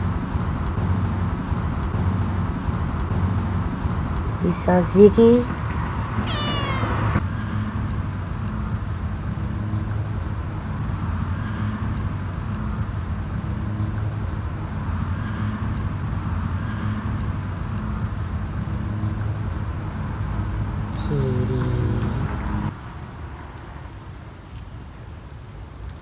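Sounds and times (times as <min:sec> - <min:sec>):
low motor hum: 0:00.0 - 0:22.7
faint rushing noise: 0:00.0 - 0:26.0.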